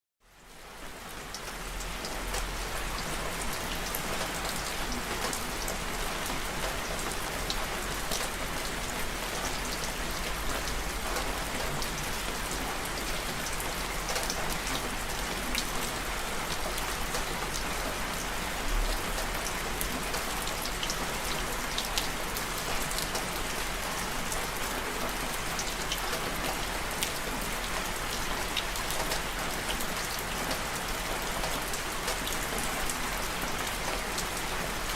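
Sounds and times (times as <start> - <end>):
rain pattering on a surface: 0.2 - 34.9.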